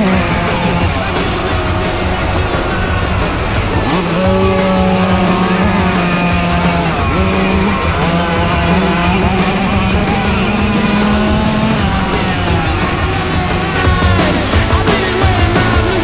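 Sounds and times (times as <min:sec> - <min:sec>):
moped engines revving: 0:00.0 - 0:16.0.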